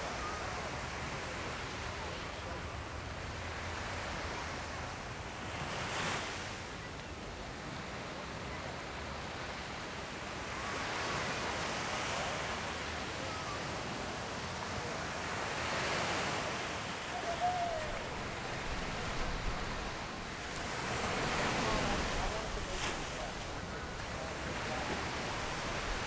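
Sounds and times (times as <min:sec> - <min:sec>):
waves washing up a beach: 0:00.0 - 0:26.0.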